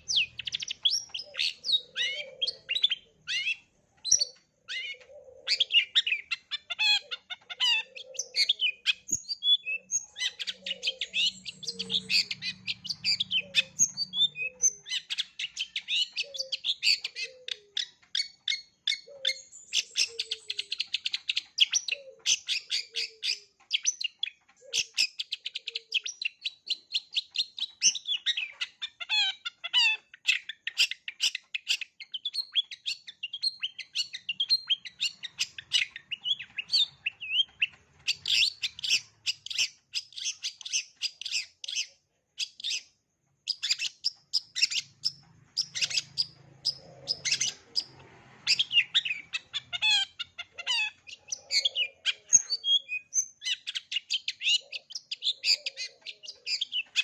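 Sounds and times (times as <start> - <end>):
shrike singing varied chirps: 0.0 - 57.0.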